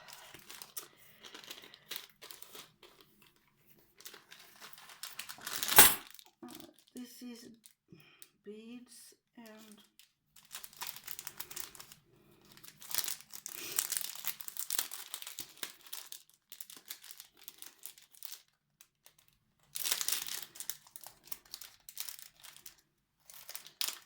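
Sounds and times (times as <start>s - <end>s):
plastic bag crinkling: 0.0s - 7.0s, 9.5s - 24.0s.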